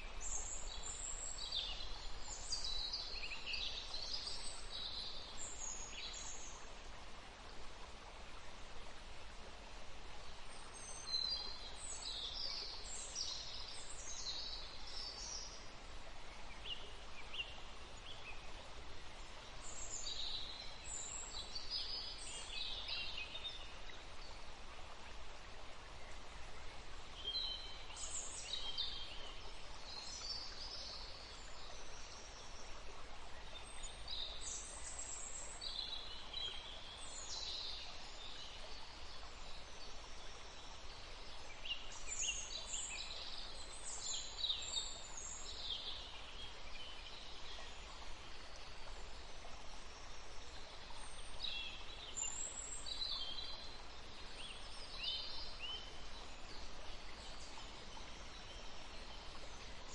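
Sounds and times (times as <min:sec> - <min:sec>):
songbirds chirping: 0:00.0 - 0:59.9
stream flowing: 0:00.0 - 0:59.9.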